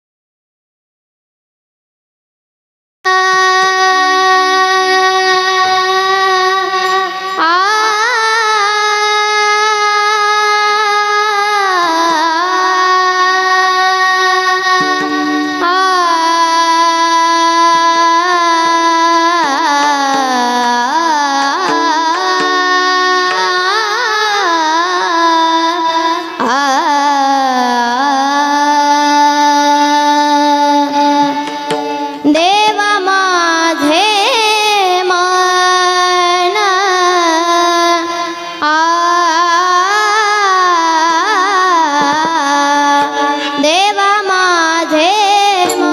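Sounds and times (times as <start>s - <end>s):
devotional melody: 3.1s - 45.9s.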